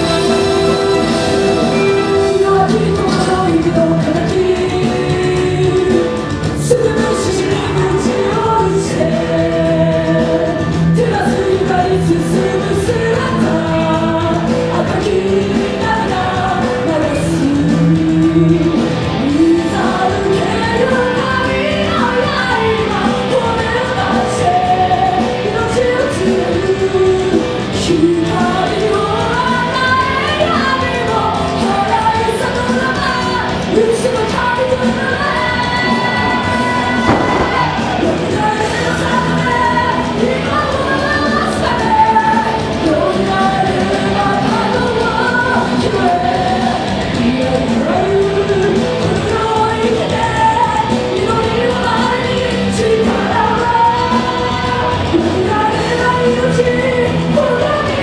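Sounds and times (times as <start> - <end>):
band with singer: 0.0 - 58.0.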